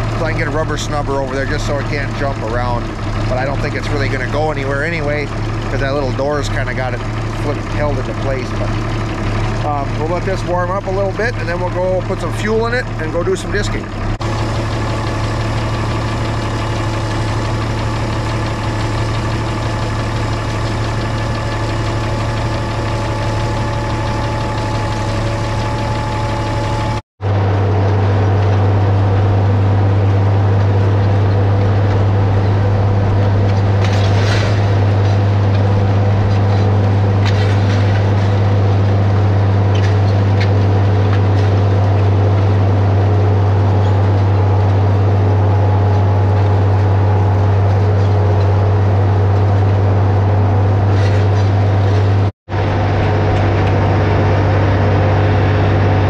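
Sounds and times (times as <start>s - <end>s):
diesel tractor engine: 0.0s - 56.0s.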